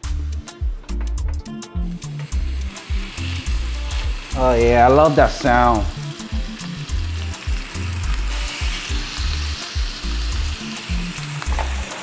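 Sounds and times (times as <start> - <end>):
music bass line: 0.0 - 12.0
meat sizzling in oil: 2.0 - 12.0.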